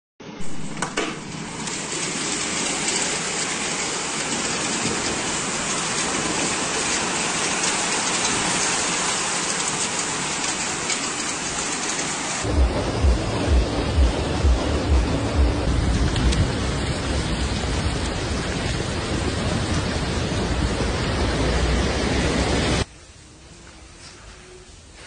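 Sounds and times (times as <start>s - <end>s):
heavy hail hitting surfaces: 0.8s - 22.9s.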